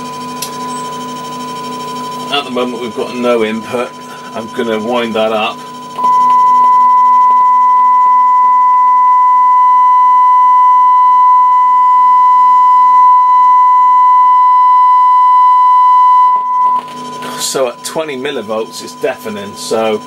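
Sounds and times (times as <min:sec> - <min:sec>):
faint pulsing hum: 0:00.0 - 0:20.0
loud test tone from loudspeaker: 0:00.5 - 0:20.0.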